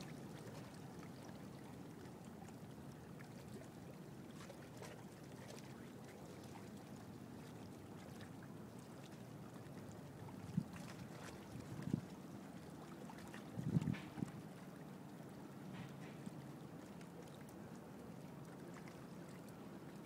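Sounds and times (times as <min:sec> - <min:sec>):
water lapping and trickling: 0:00.0 - 0:20.0.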